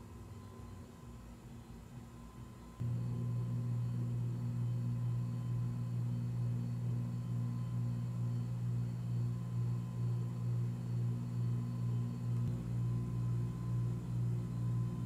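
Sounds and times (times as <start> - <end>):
faint whine tones: 0.0 - 15.0
pulsing low hum: 2.8 - 15.0.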